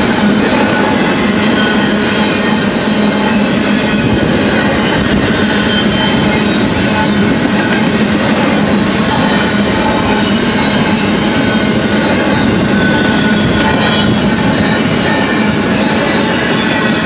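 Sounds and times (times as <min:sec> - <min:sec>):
steel wheels rolling on rails: 0:00.0 - 0:17.0.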